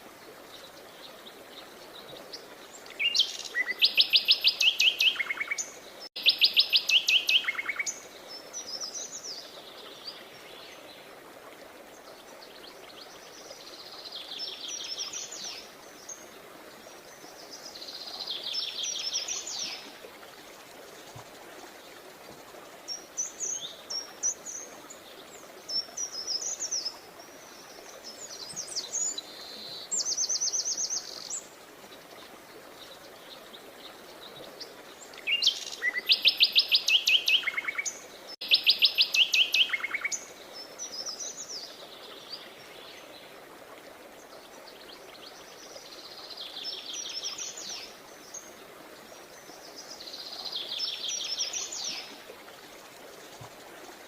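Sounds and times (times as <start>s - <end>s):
faint background hiss: 0.0s - 54.0s
songbirds trilling and chirping: 0.5s - 11.2s, 11.9s - 54.0s.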